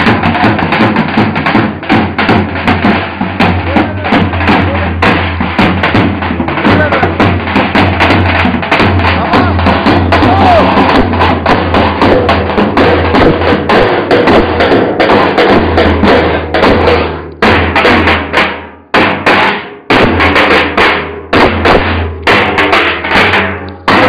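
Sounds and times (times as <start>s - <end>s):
bass drums beating: 0.0s - 24.0s.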